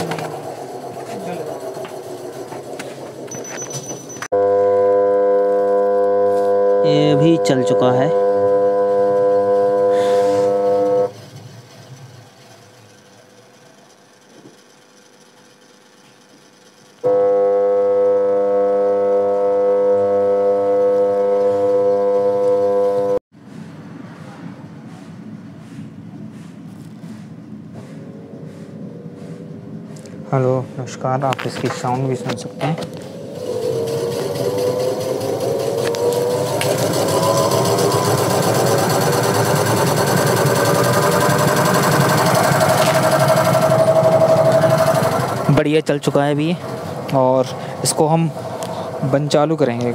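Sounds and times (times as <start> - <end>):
washing machine motor hum: 0.0 - 23.2, 31.8 - 49.9.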